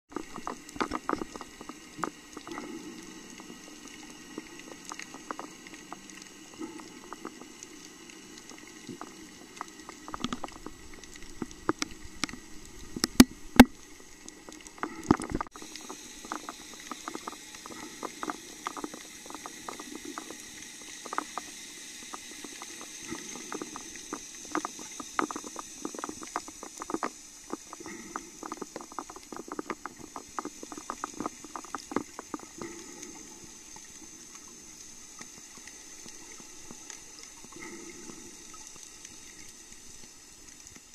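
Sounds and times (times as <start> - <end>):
low underwater hum: 0.1 - 40.9
underwater fizzing crackle: 0.1 - 40.9.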